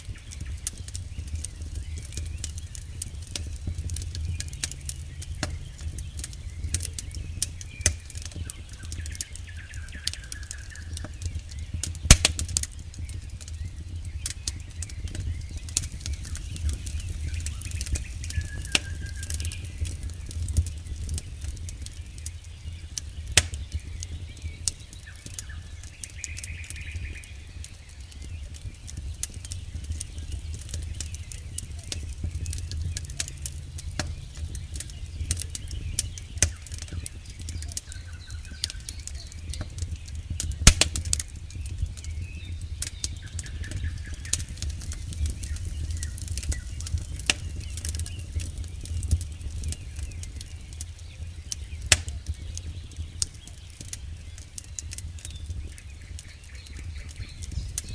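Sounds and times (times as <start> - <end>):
campfire crackling and popping: 0.0 - 57.9
steady low rumble: 0.0 - 57.9.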